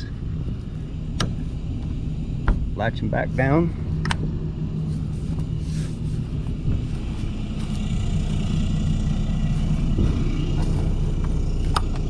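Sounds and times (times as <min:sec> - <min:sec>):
generator droning: 0:00.0 - 0:12.0.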